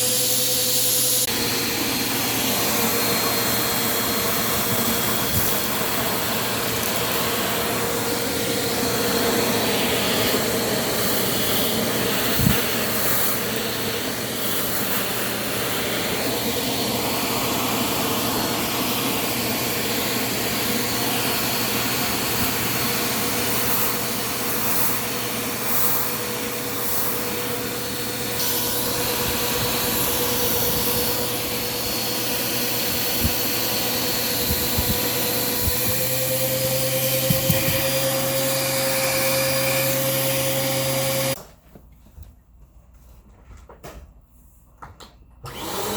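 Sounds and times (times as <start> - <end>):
vacuum cleaner motor whine: 0.0 - 41.4, 45.4 - 45.9.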